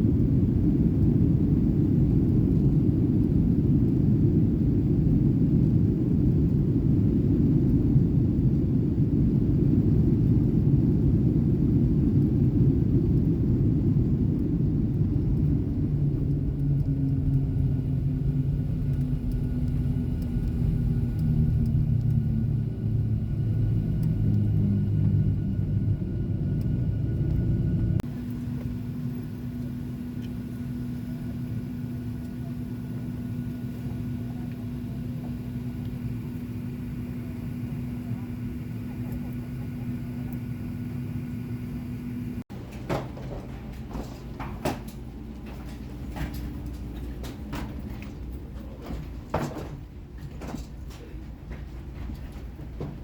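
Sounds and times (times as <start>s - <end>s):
jet engine whine: 0.0s - 53.0s
jet rumbling on runway: 0.0s - 53.0s
steady cabin hum: 0.0s - 53.0s.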